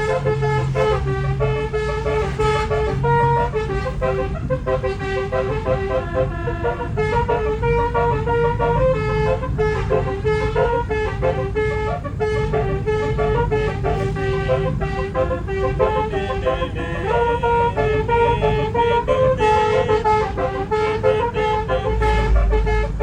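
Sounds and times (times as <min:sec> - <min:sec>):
air horn playing a melody: 0:00.0 - 0:23.0
steady low rumble: 0:00.0 - 0:23.0.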